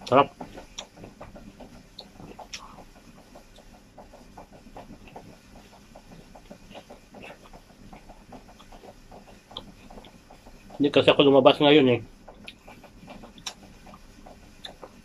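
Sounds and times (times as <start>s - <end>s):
mouth chewing food: 0.2s - 11.0s, 12.3s - 15.0s.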